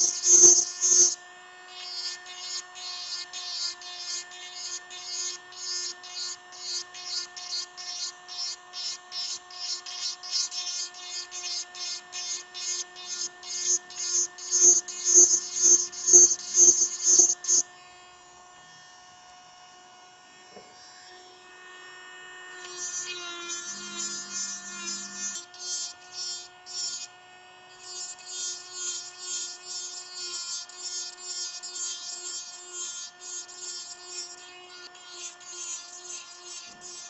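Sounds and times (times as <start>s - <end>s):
rotary tool motor whine: 0.0s - 18.8s, 19.7s - 37.0s.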